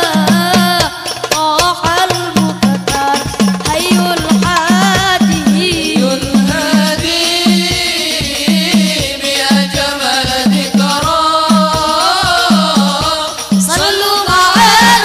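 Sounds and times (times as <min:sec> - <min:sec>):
frame drums beating: 0:00.0 - 0:15.0
voices singing devotional melody: 0:00.0 - 0:15.0.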